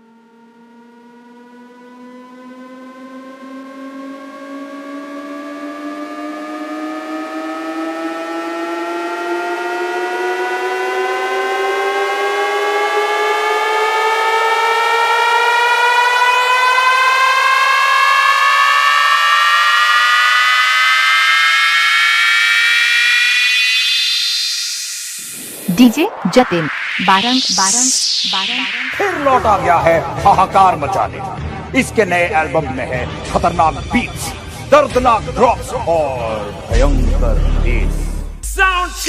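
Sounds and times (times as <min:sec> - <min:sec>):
rising synth tones: 0:00.0 - 0:38.6.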